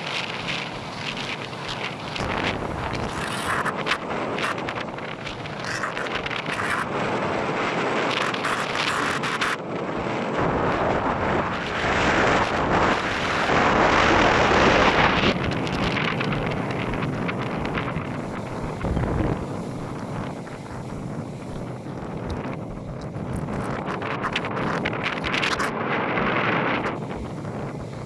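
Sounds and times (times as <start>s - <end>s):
ocean waves washing: 0.0s - 28.0s
wind buffeting microphone: 0.0s - 28.0s.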